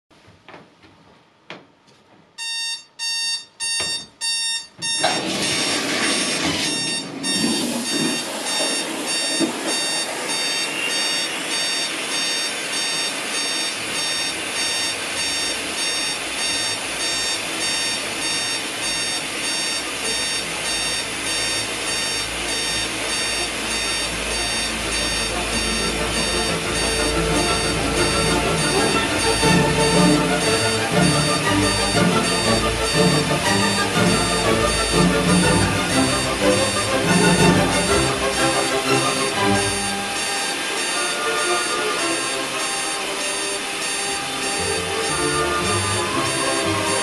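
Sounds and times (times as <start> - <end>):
digital alarm clock beeping: 2.4 - 47.0
shower water hissing: 5.2 - 47.0.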